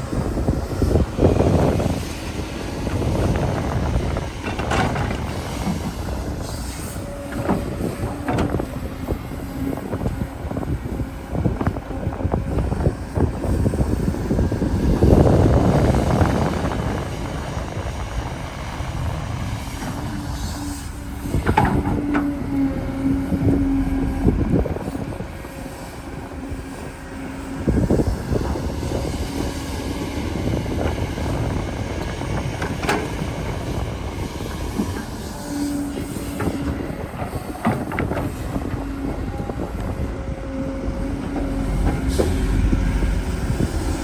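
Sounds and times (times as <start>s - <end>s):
excavator machine noise: 0.0s - 44.0s.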